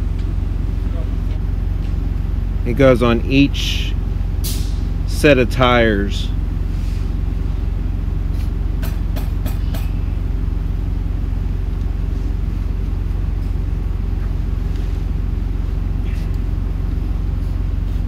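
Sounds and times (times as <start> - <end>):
low drone of machinery: 0.0 - 18.0.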